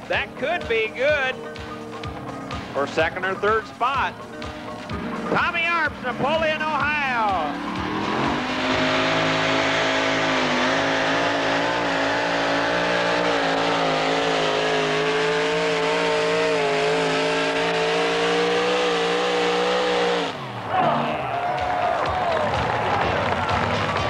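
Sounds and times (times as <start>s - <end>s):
truck engine at full throttle: 4.2s - 24.0s.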